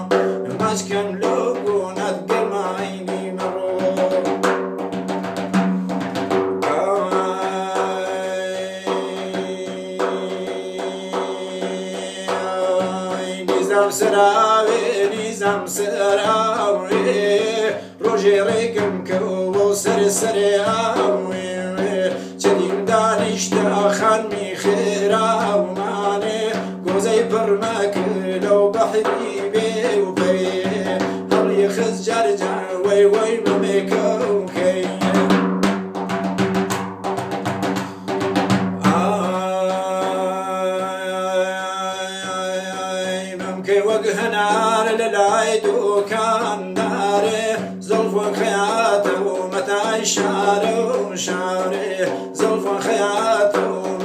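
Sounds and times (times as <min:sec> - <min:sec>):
hand frame drum: 0:00.0 - 0:54.0.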